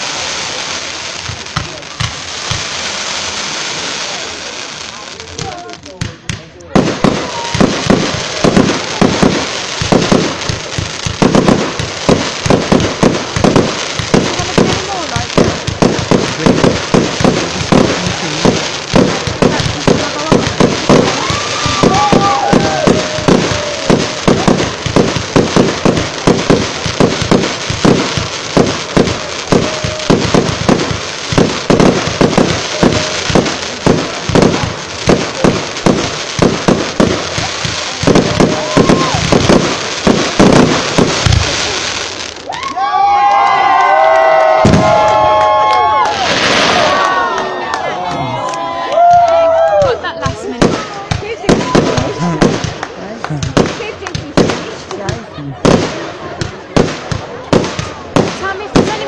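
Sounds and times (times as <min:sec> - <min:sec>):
fireworks banging: 0:00.0 - 0:42.6, 0:43.2 - 0:59.0.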